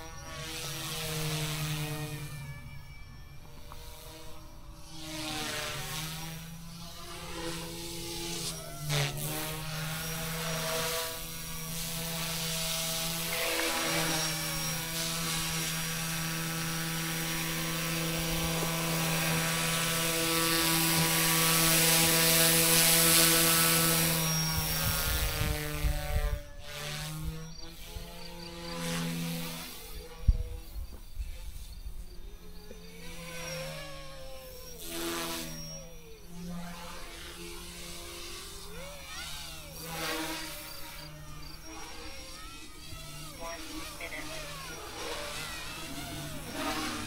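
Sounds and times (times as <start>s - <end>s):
toy helicopter motor whine: 0.0s - 47.0s.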